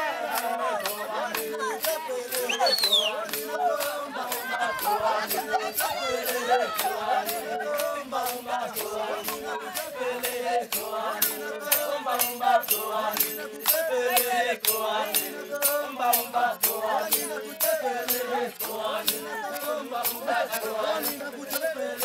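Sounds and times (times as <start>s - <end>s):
group of voices chanting: 0.0s - 22.0s
rattle shaken in a beat: 0.0s - 22.0s.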